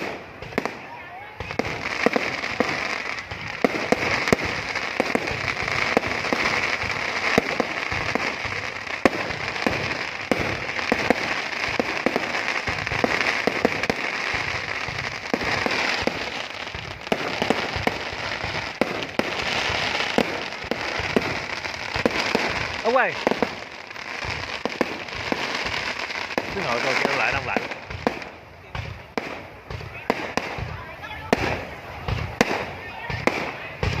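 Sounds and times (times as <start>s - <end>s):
fireworks crackling and banging: 0.0s - 34.0s.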